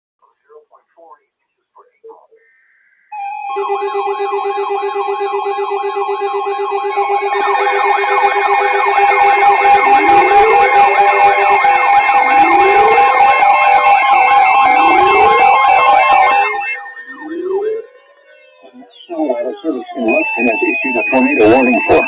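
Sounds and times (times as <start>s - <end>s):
steady alert tones: 3.1s - 22.0s
warbling sirens: 3.1s - 22.0s.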